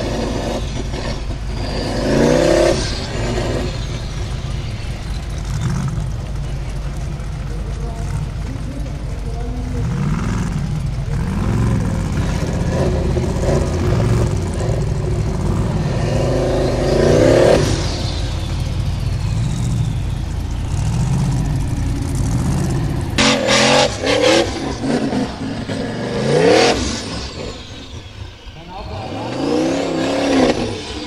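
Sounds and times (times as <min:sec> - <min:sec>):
buggy engine revving hard: 0:00.0 - 0:31.0
tyres spinning on dirt: 0:00.0 - 0:31.0.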